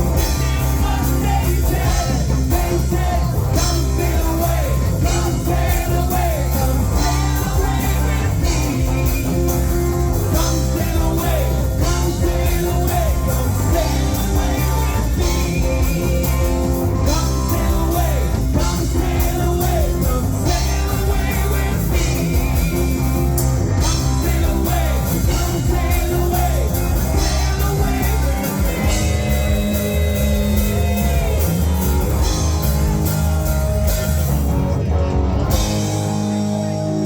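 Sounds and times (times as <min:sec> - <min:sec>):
person singing: 0:00.0 - 0:23.0, 0:23.8 - 0:32.2
live rock band: 0:00.0 - 0:37.0.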